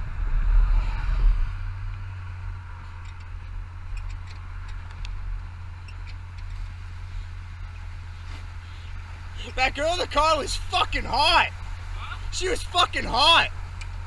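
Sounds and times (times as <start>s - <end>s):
diesel engine drone: 0.0s - 14.0s
road noise: 0.0s - 14.0s.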